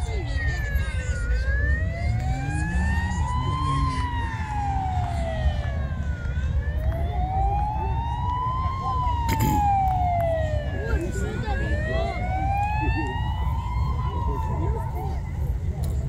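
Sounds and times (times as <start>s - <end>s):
siren wailing: 0.0s - 15.7s.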